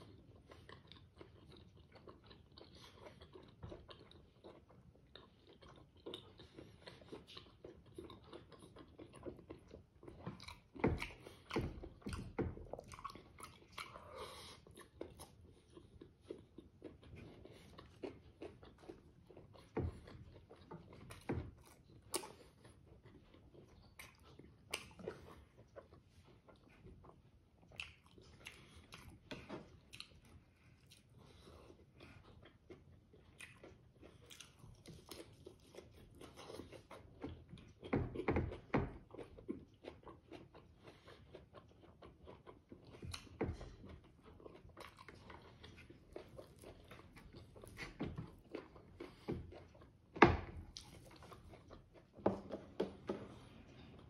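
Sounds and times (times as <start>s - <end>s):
chewing and mouth smacking: 0.0s - 54.0s.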